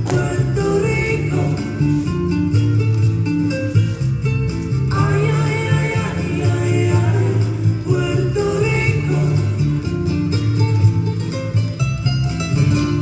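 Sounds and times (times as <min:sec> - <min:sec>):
flamenco-style guitar music: 0:00.0 - 0:13.0.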